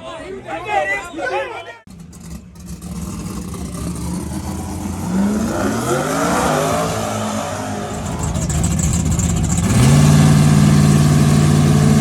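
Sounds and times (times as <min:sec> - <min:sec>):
car engine revving: 0:01.9 - 0:12.0.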